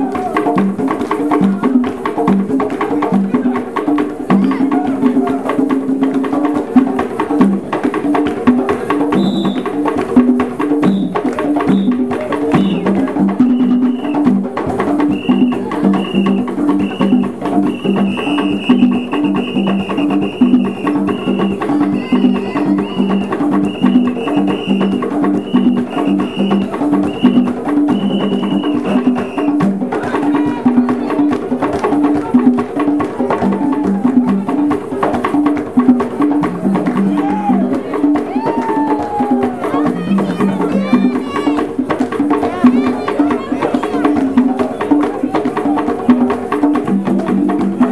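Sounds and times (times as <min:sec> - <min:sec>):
hand drums in fast rhythm: 0:00.0 - 0:47.9.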